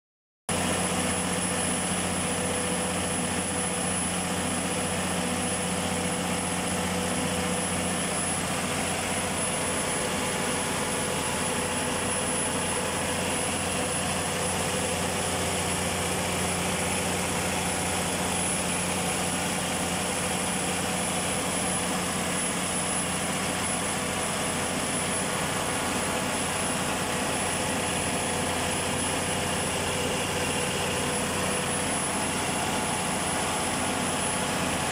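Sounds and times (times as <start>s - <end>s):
diesel generator engine running: 0.5s - 34.9s
thin high whine: 0.5s - 34.9s.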